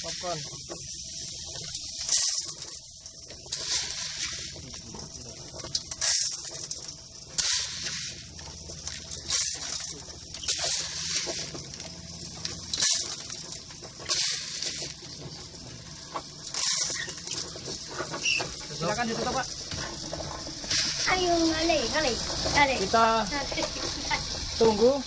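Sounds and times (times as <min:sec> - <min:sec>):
popcorn kernels rattling in pan: 0:00.0 - 0:25.0.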